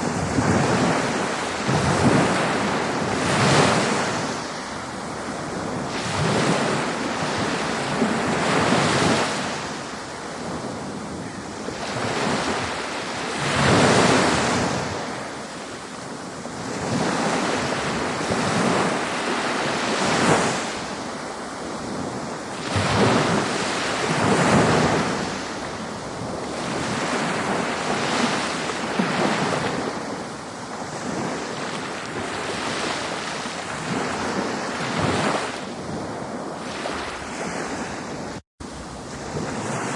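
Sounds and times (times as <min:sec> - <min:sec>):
ocean waves breaking on shore: 0:00.0 - 0:39.9
wind on microphone: 0:00.0 - 0:39.9.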